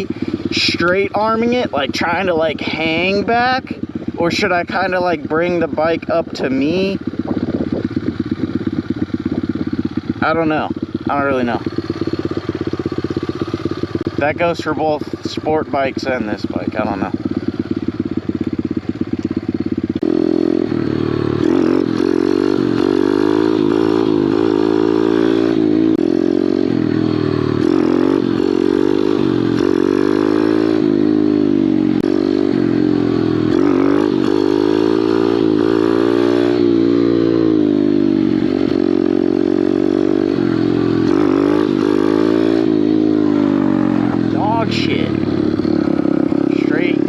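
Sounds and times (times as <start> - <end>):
pit bike engine revving: 0.0 - 47.0.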